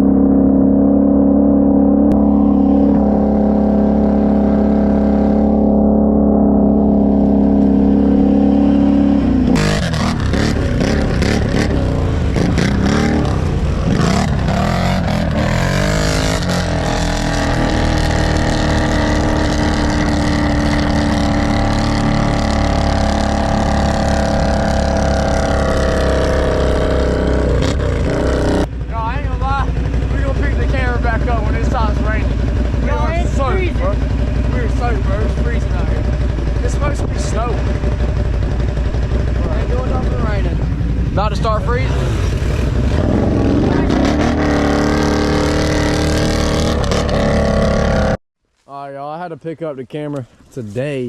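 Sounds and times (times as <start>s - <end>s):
atv engine running: 0.0s - 48.2s
dense rushing noise: 2.2s - 48.0s.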